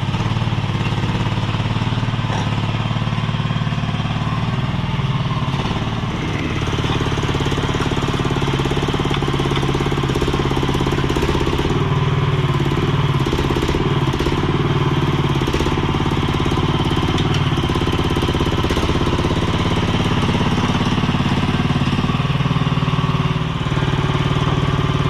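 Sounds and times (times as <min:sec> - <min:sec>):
skid steer engine running: 0:00.0 - 0:25.0.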